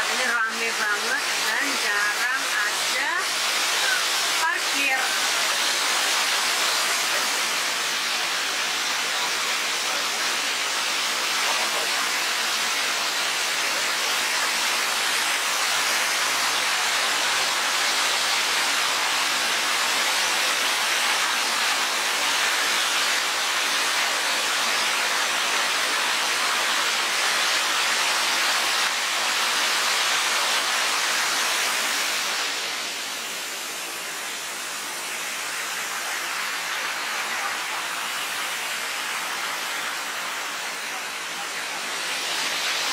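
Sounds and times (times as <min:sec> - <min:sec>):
waterfall rushing over rocks: 0:00.0 - 0:42.9.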